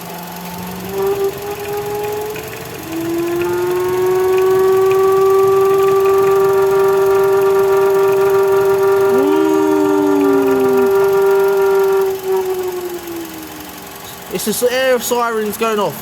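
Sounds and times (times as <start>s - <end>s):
car engine moaning hoot: 0.0s - 14.8s.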